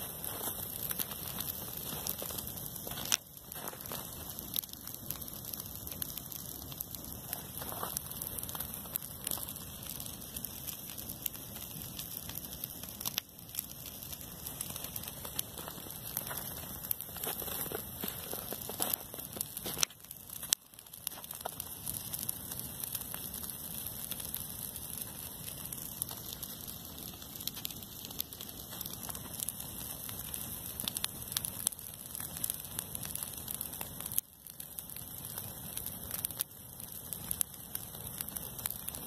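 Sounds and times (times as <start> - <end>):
flames hissing and crackling: 0.0 - 39.0.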